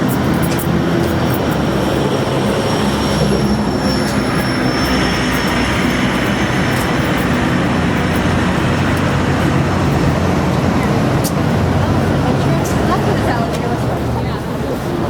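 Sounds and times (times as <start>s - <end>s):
road rumble: 0.0s - 15.0s
vehicle engine hum: 0.0s - 15.0s.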